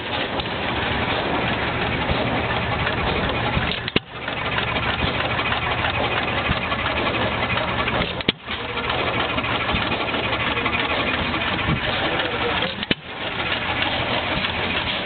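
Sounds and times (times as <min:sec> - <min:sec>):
background engines: 0:00.0 - 0:15.0
small stationary engine running: 0:00.0 - 0:15.0.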